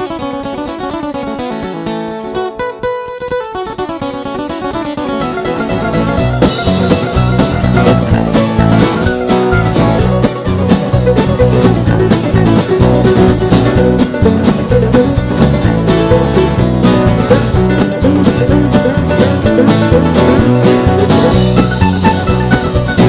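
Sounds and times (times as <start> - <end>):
upbeat bluegrass music: 0.0 - 23.0.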